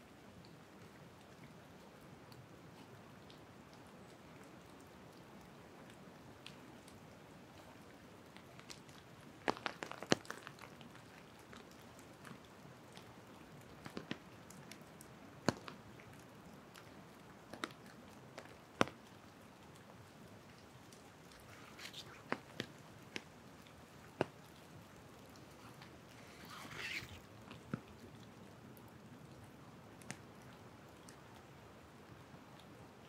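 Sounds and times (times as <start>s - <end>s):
light rain hiss: 0.0s - 33.0s
raindrops dripping from trees: 0.0s - 33.0s.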